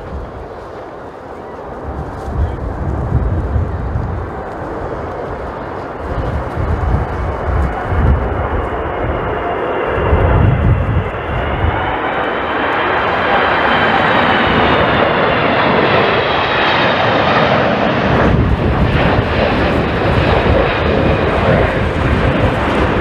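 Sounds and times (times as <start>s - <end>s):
jet engines roaring with whine: 0.0s - 23.0s.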